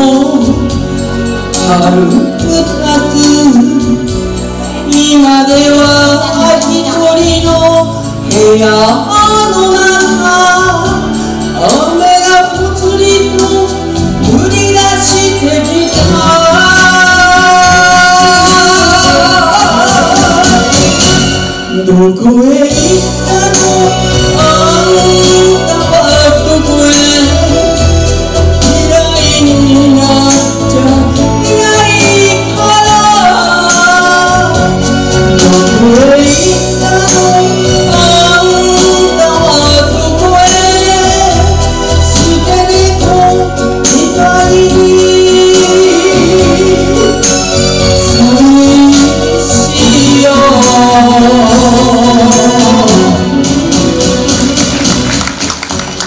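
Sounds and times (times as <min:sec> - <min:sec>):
woman singing a ballad: 0:00.0 - 0:54.8
instrumental accompaniment: 0:00.0 - 0:56.0.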